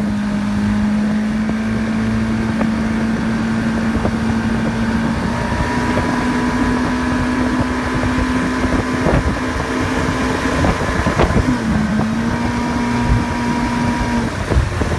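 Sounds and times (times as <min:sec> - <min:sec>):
churning wake rushing: 0:00.0 - 0:14.9
outboard motor running: 0:00.0 - 0:14.9
wind on microphone: 0:00.0 - 0:14.9.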